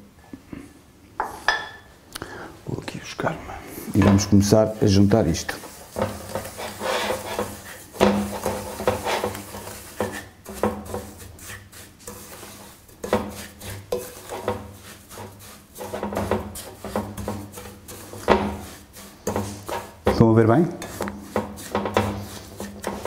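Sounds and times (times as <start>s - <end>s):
spoon scraping glass bowl: 4.0s - 23.0s.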